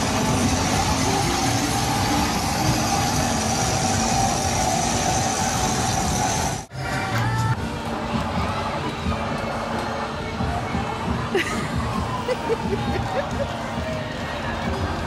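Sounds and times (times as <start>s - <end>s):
mechanical rumble of ride: 0.0s - 15.0s.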